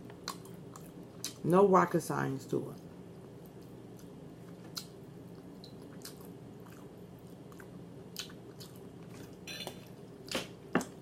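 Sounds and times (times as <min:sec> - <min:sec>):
person chewing food: 0:00.0 - 0:01.4, 0:03.2 - 0:11.0
steady low hum: 0:00.0 - 0:11.0.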